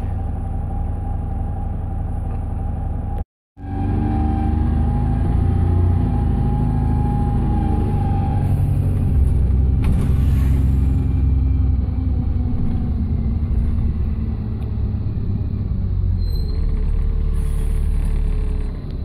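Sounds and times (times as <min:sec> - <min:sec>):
bus engine low rumble: 0:00.0 - 0:19.0.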